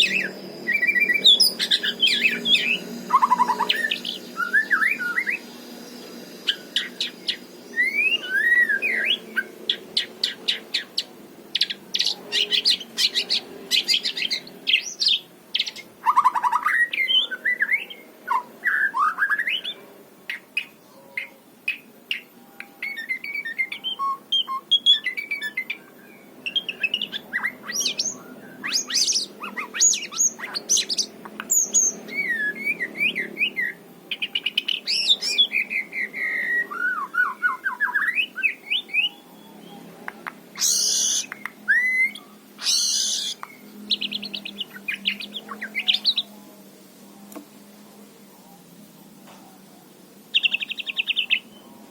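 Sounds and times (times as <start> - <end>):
bird singing whistled notes: 0.0 - 39.9, 40.6 - 46.3, 50.3 - 51.7.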